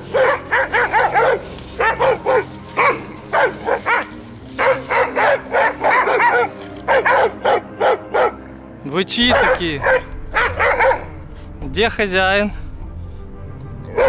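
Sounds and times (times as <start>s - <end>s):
dogs barking: 0.0s - 11.5s.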